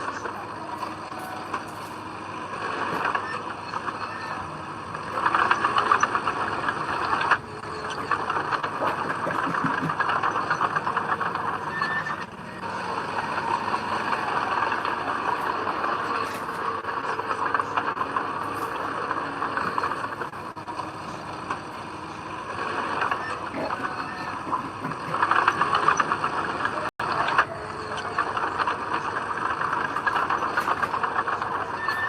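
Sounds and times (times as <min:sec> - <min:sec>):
diesel earthmoving machinery running: 0:00.0 - 0:32.0.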